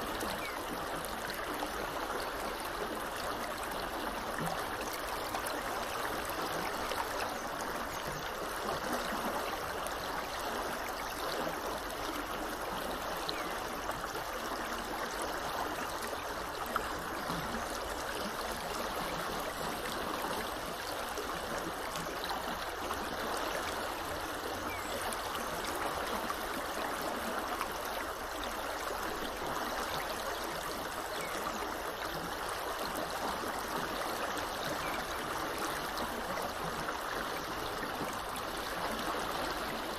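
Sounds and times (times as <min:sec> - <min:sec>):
river water rushing and trickling: 0:00.0 - 0:39.9.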